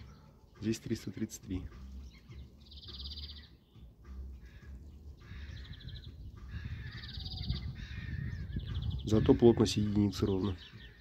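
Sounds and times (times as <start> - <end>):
songbird trilling: 1.5 - 11.0.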